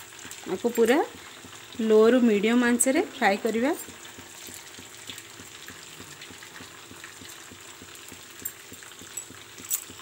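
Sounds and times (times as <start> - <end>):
deep-frying sizzle and bubbling: 0.0 - 10.0
oil crackles and pops: 0.0 - 10.0.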